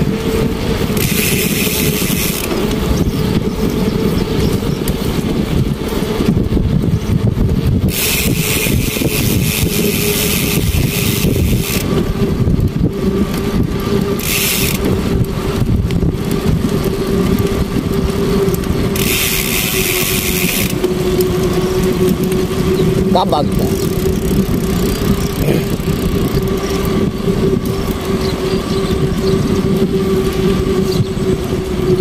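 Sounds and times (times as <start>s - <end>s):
motorcycle engine rumble: 0.0s - 32.0s.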